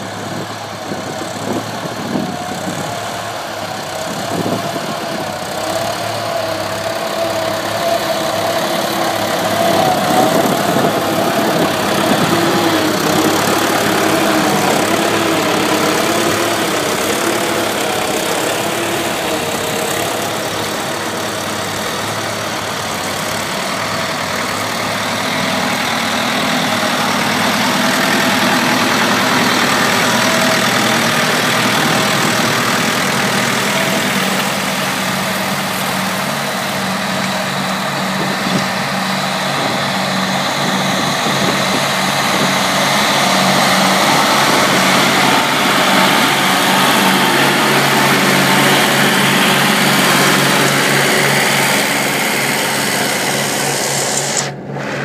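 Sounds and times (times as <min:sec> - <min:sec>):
tractor diesel engines under load: 0:00.0 - 0:55.0.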